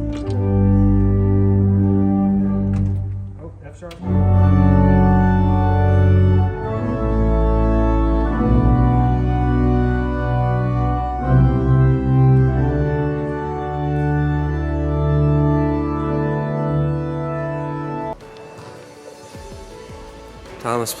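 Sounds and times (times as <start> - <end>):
church organ chords: 0.0 - 19.3.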